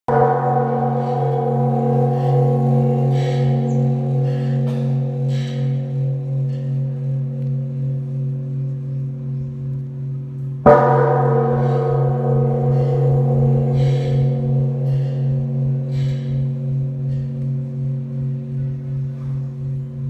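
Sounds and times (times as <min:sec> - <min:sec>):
large bell ringing: 0:00.1 - 0:20.0.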